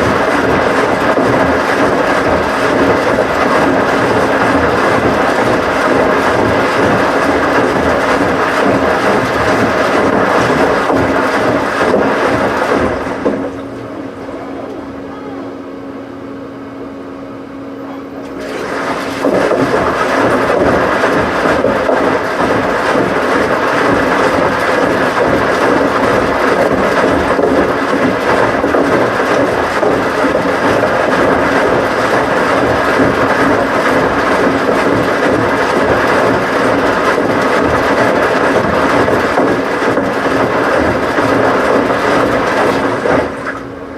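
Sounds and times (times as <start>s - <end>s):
washing machine rumble: 0.0s - 43.9s.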